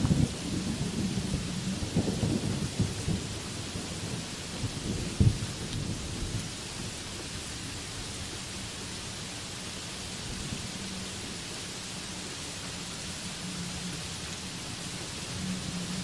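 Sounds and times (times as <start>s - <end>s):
heavy rain on leaves: 0.0s - 16.0s.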